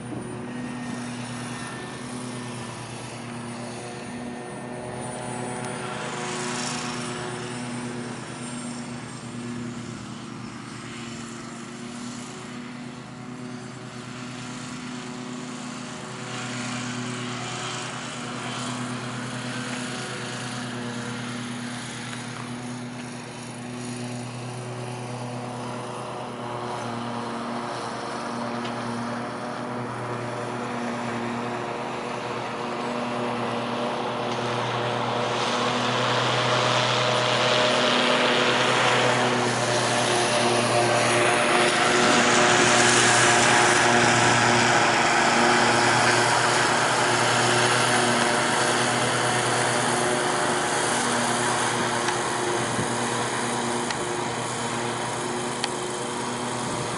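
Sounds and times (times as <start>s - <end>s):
model airplane engine humming: 0.0s - 56.9s.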